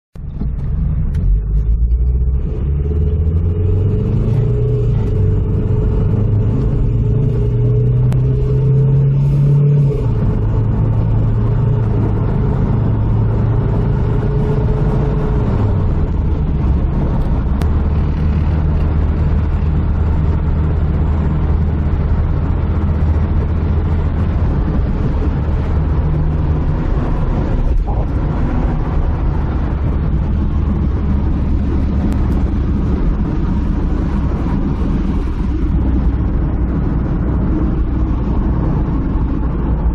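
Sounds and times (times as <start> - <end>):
road noise: 0.1 - 39.9
car engine while driving: 0.2 - 39.9.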